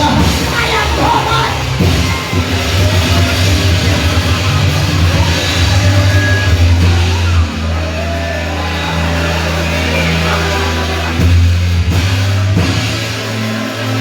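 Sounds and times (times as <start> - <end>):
band playing upbeat music: 0.0 - 14.0
bass line: 0.0 - 14.0
drum kit: 0.0 - 14.0.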